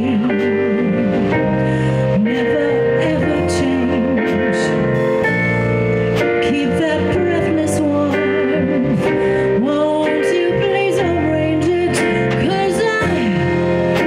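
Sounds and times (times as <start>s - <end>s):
keyboard chords: 0.0s - 14.0s
lead melody: 0.0s - 14.0s.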